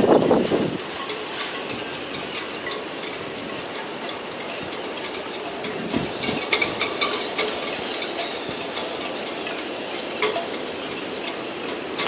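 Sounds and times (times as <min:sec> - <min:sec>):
sharp clicks and knocks: 0:00.0 - 0:12.0.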